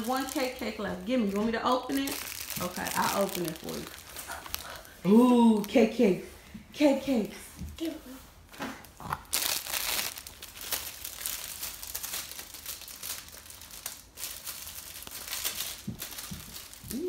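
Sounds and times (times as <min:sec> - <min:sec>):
plastic wrapper crinkling: 0:00.0 - 0:06.0, 0:08.8 - 0:17.0.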